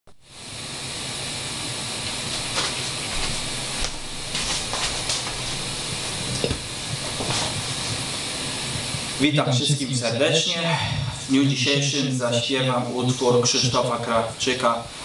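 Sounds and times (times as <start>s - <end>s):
steady background hiss: 0.2s - 15.0s.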